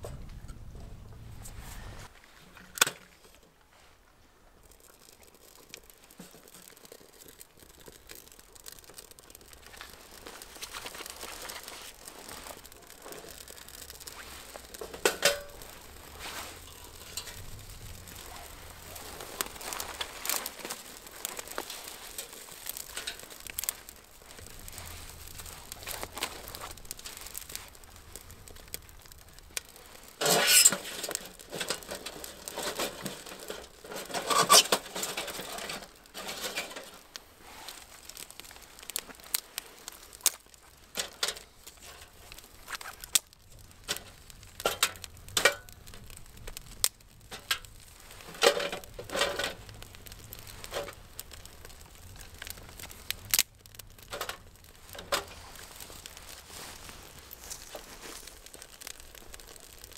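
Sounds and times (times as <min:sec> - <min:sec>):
dry grass and twigs rustling: 0:00.0 - 0:59.9
fire crackling: 0:00.0 - 0:59.9.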